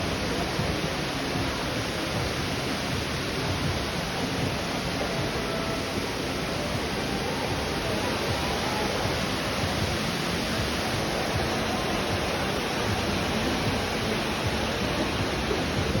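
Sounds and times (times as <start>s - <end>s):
waterfall splashing: 0.0s - 16.0s.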